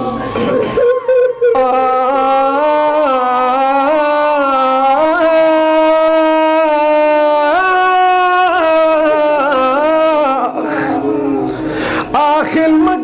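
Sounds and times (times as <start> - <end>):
man singing a lament: 0.6 - 13.0.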